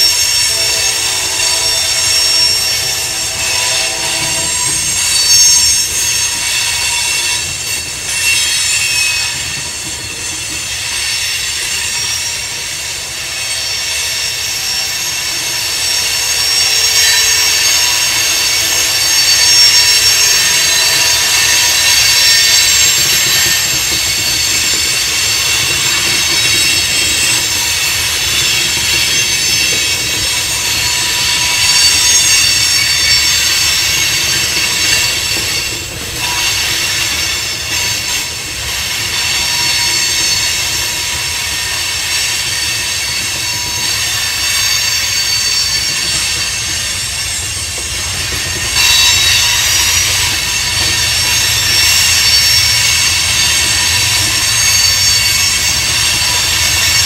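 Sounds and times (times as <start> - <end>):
train wheels rumbling on rail: 0.0 - 57.0
wheel squeal: 0.0 - 57.0.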